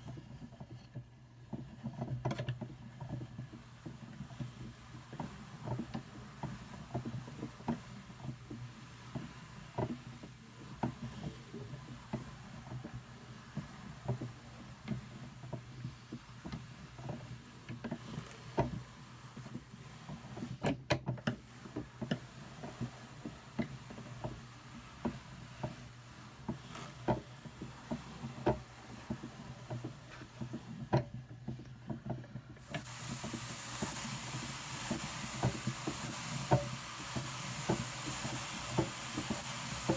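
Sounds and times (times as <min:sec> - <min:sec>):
drum carder combing wool: 0:00.0 - 0:39.9
scratchy hiss: 0:03.4 - 0:20.6, 0:21.4 - 0:31.0, 0:32.6 - 0:39.9.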